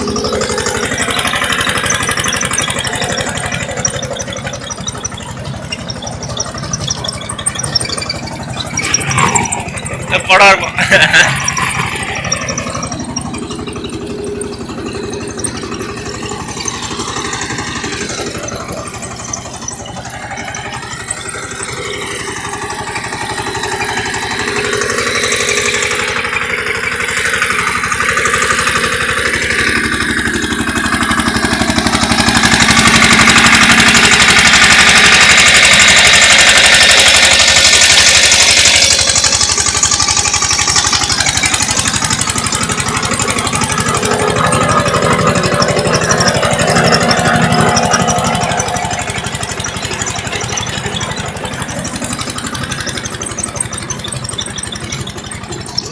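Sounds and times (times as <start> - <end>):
tractor diesel engine chugging: 0.0 - 55.9.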